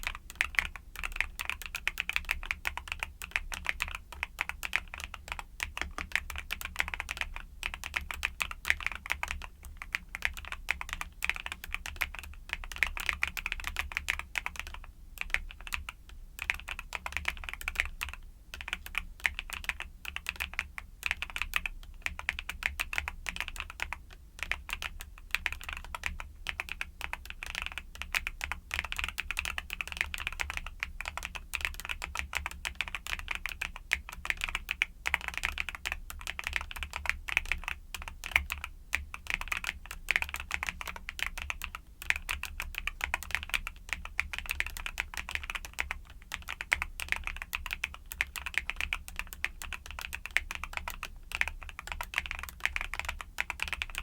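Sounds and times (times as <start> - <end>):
fast typing on mechanical keyboard: 0.0 - 54.0.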